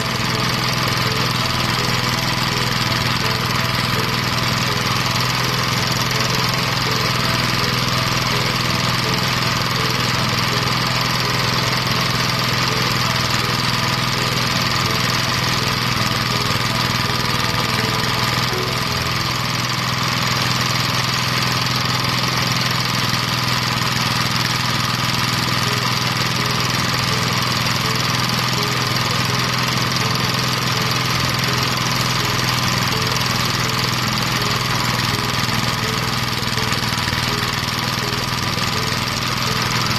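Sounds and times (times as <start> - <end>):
rice thresher engine drone: 0.0 - 39.9.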